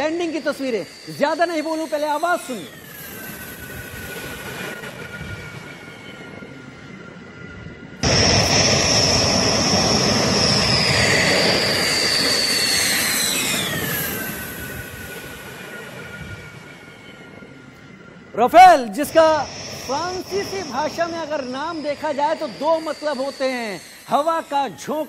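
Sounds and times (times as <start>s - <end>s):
jet engine whine: 0.0s - 25.0s
rushing air noise: 0.0s - 25.0s.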